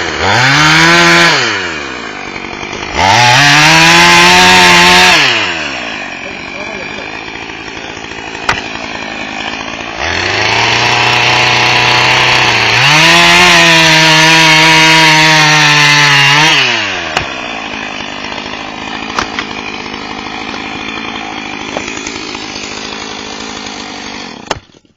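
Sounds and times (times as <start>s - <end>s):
chainsaw engine revving: 0.0s - 24.7s.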